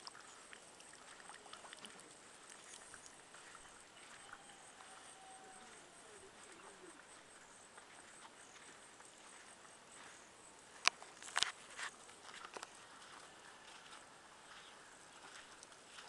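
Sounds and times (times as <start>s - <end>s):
pulsing insect chirp: 0.2s - 16.0s
footsteps on sandy dirt path: 2.4s - 16.0s.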